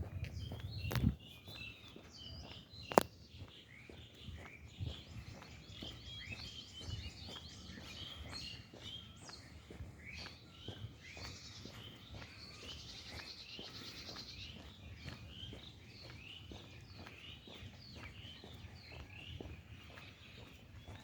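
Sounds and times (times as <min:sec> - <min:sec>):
birds chirping: 0:00.0 - 0:21.0
footsteps on a trail: 0:00.0 - 0:21.0.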